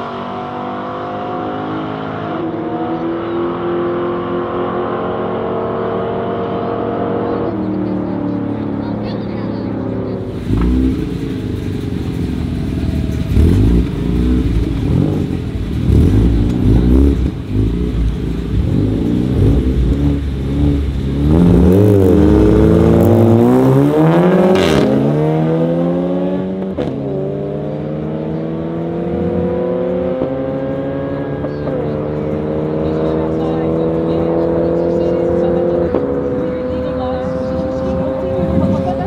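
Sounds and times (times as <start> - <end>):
car engines revving: 0.0 - 39.0
cars accelerating hard: 0.0 - 39.0.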